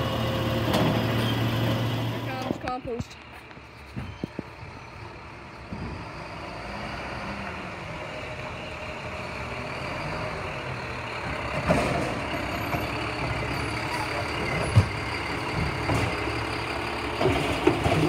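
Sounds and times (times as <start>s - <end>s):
garbage truck diesel engine: 0.0s - 18.0s.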